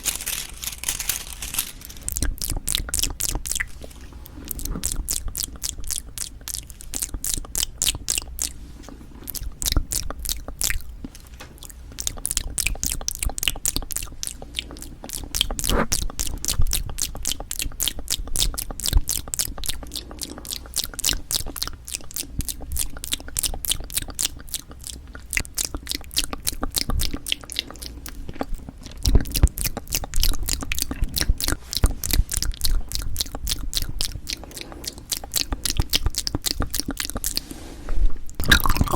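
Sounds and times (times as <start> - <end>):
wet chewing mouth clicks: 2.0 - 38.9.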